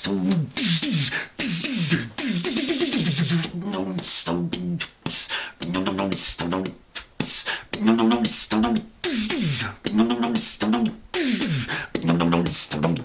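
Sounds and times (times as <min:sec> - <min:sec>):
man beatboxing: 0:00.0 - 0:13.0.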